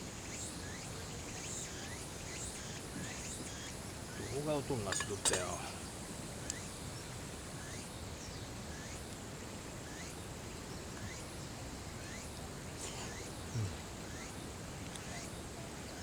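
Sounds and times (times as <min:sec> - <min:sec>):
steady background hiss: 0:00.0 - 0:08.6, 0:09.2 - 0:16.0.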